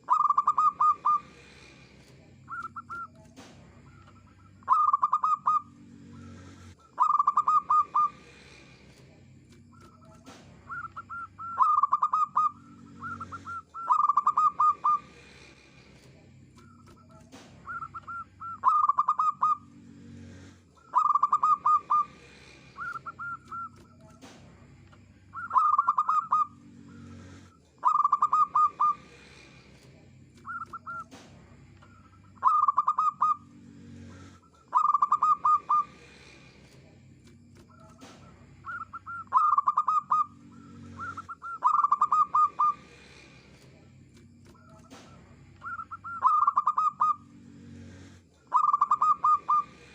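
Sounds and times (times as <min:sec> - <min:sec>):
dove cooing: 0:00.0 - 0:01.8, 0:02.4 - 0:08.7, 0:09.6 - 0:24.4, 0:25.3 - 0:29.7, 0:30.4 - 0:36.4, 0:37.6 - 0:43.5, 0:44.5 - 0:49.9.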